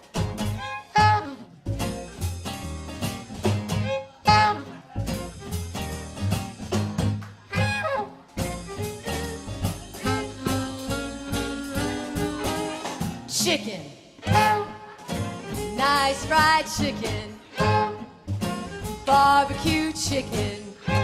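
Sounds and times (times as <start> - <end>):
live jazz band playing swing: 0.0 - 21.0.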